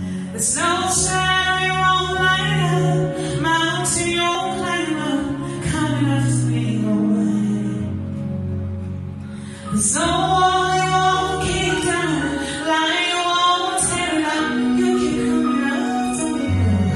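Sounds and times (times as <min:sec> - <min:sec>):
person singing gospel: 0:00.0 - 0:08.1, 0:09.4 - 0:16.9
sustained low accompaniment chords: 0:00.0 - 0:16.9.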